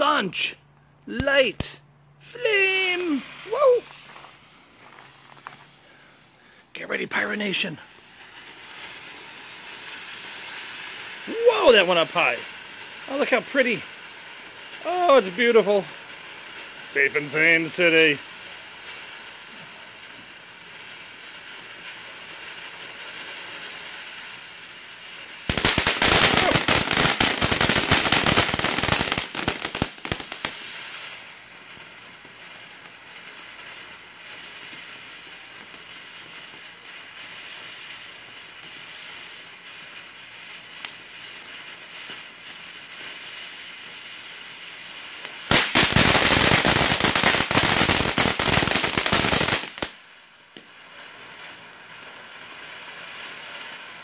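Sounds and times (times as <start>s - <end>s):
firework crackling: 0.0s - 54.0s
firework fountain hissing: 0.0s - 54.0s.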